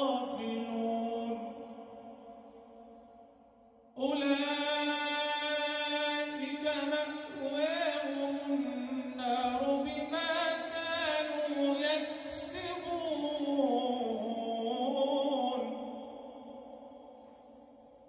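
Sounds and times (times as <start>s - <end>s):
man chanting recitation: 0.0s - 2.1s, 4.0s - 16.7s.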